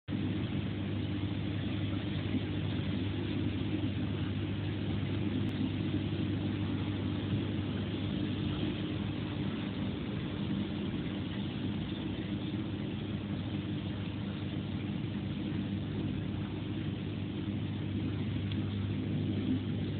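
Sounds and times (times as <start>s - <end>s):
aquarium pump humming: 0.1s - 19.9s.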